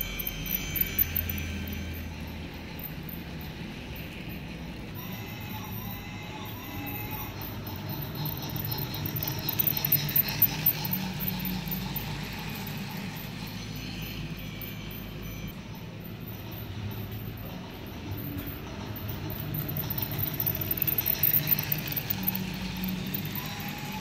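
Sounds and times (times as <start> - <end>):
toy train rattling on track: 0.0 - 24.0.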